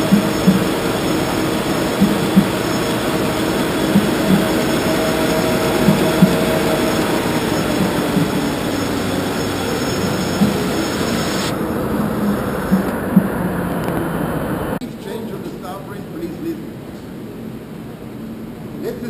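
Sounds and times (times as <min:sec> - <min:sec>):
printing press hum and rumble: 0:00.0 - 0:19.0.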